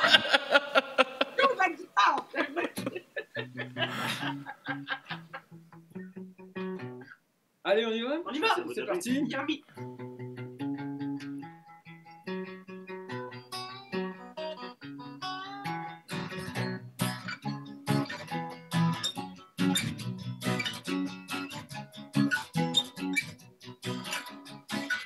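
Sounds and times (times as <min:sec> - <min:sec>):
guitar picking and strumming: 0:02.6 - 0:07.2, 0:09.0 - 0:25.0.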